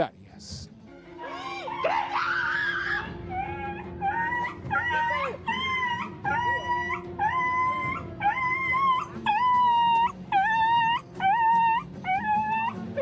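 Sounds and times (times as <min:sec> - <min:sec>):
dog yelping in pain: 0:01.2 - 0:13.0.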